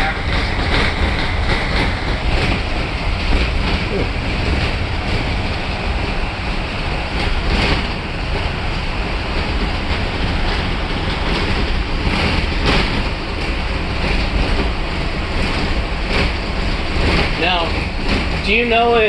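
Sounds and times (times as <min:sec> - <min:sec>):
bus engine and road rumble: 0:00.0 - 0:19.0
rattles or bumps: 0:00.0 - 0:19.0.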